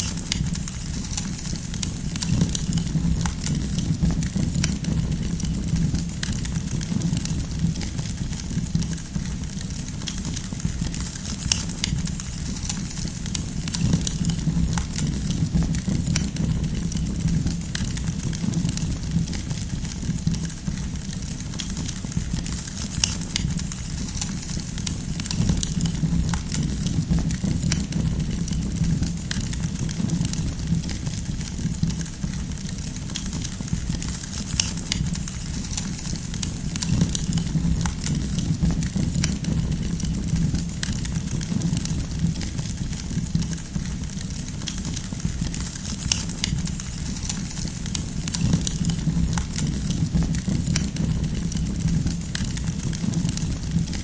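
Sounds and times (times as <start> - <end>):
campfire crackling and popping: 0.0 - 54.0
low rumble of flames: 0.0 - 54.0.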